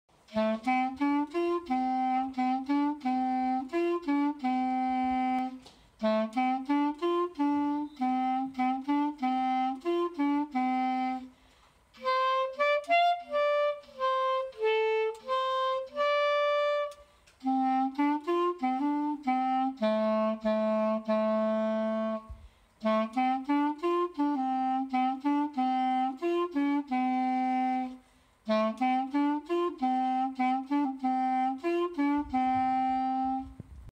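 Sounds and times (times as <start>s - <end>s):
solo clarinet folk melody: 0.1s - 33.9s.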